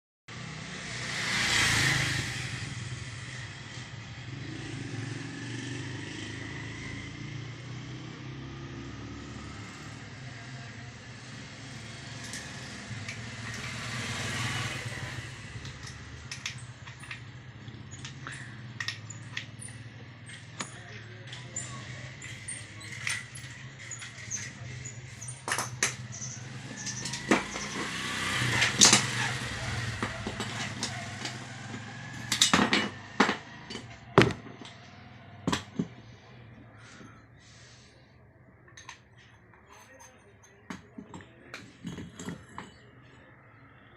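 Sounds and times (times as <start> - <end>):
vehicles passing: 0.3 - 43.9.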